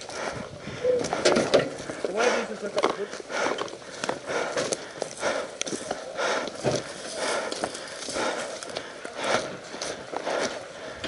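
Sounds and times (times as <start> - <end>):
footsteps: 0.0 - 11.0
hard breathing: 0.0 - 11.0.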